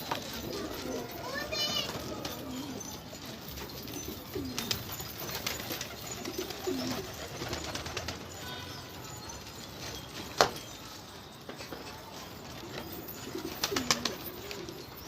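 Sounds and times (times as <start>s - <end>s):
pigeons cooing: 0.0s - 10.8s, 11.8s - 15.0s.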